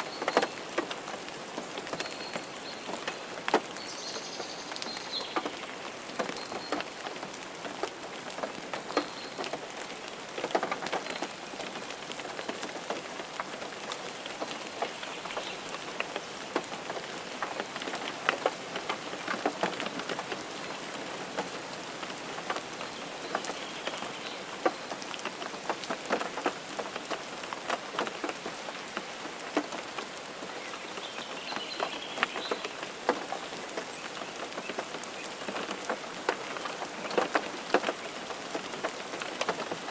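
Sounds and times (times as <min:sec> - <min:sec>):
rain and snow on car windshield: 0:00.0 - 0:39.9.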